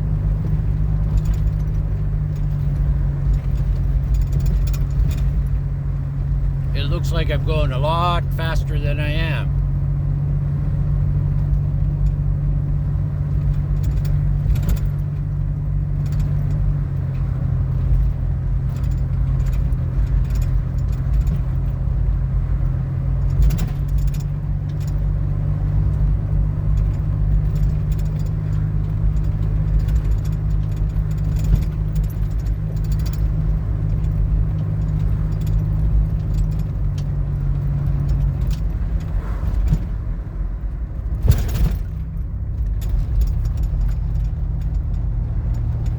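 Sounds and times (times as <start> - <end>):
car engine and road drone: 0.0 - 45.9
rattling and jingling clicks: 0.4 - 9.8, 11.2 - 45.9.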